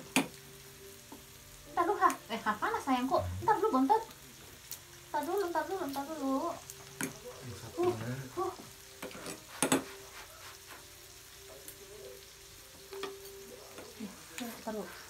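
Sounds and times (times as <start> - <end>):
meat sizzling on grill pan: 0.0 - 15.0.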